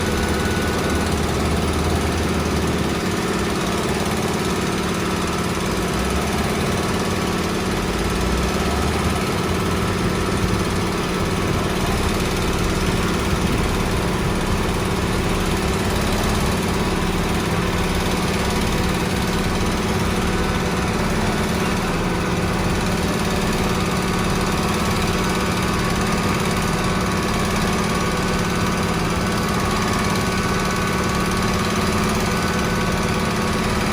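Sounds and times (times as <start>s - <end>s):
construction machinery engine running: 0.0s - 33.9s.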